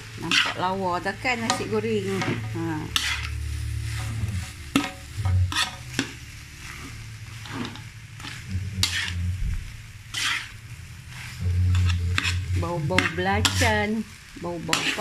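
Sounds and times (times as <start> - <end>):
faint sizzle: 0.0 - 15.0
spatula scraping wok: 0.0 - 15.0.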